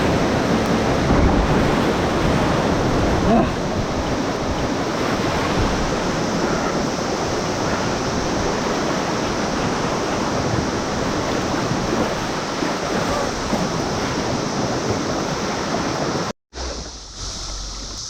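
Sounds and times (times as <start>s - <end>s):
rushing whitewater: 0.0s - 18.0s.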